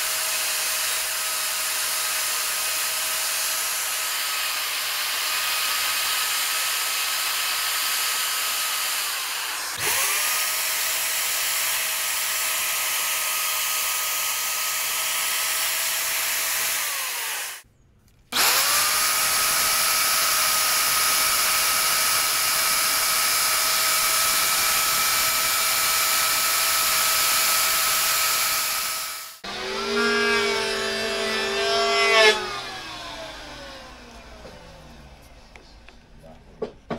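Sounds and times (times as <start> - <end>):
electric wood router whining: 0.0 - 17.6, 18.4 - 35.6.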